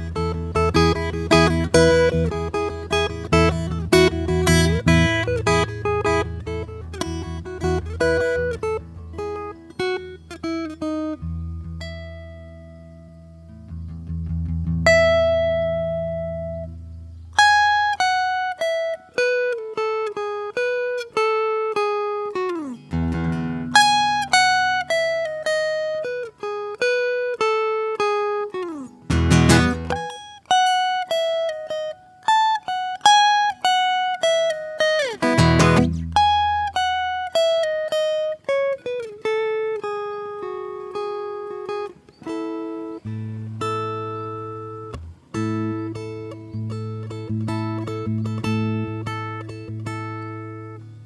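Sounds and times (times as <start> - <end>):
guitar chord strummed: 0.0 - 13.0, 14.7 - 16.8, 17.4 - 51.0
acoustic guitar melody: 0.0 - 51.0.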